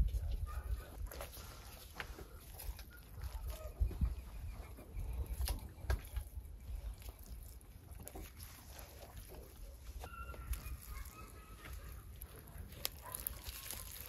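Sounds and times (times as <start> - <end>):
wet handling sounds: 0.9 - 14.0.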